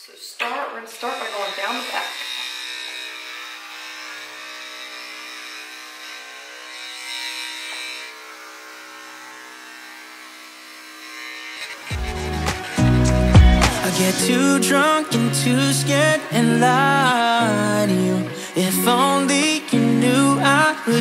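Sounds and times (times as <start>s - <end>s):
electric clippers humming: 0.4s - 21.0s.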